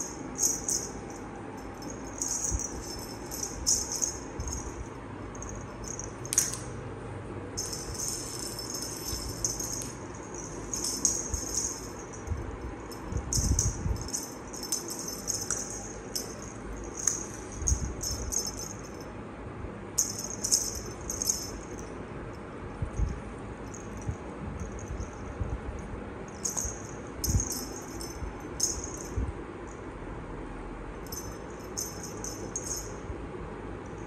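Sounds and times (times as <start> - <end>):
toy rattling and jingling: 0.0 - 6.6, 7.6 - 19.1, 20.0 - 22.0, 23.0 - 25.4, 26.3 - 29.2, 31.0 - 33.0.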